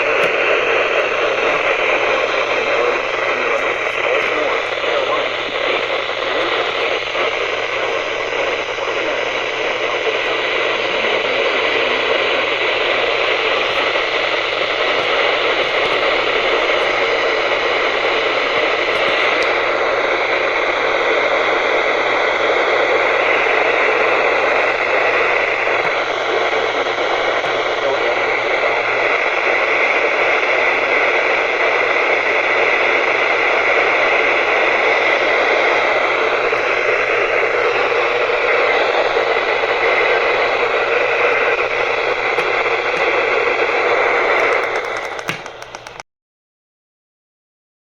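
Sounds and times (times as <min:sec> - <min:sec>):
radio static hiss: 0:00.0 - 0:46.0.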